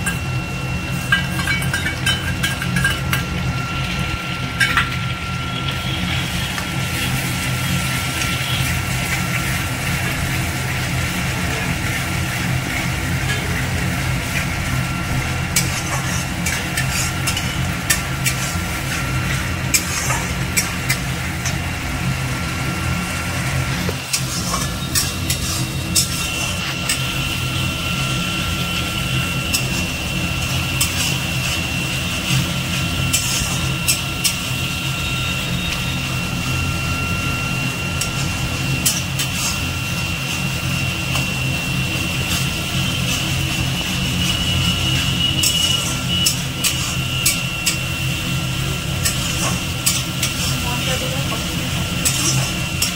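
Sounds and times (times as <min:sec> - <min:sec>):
faint high whine: 0:00.0 - 0:17.8, 0:21.1 - 0:52.8.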